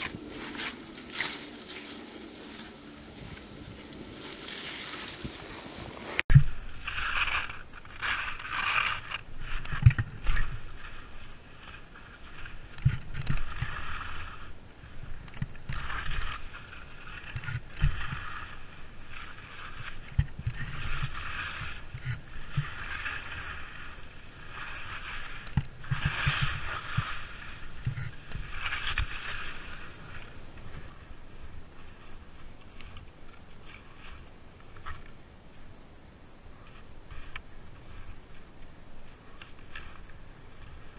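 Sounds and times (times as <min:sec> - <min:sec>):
skis scraping swish on snow: 0:00.0 - 0:35.0, 0:36.6 - 0:40.9.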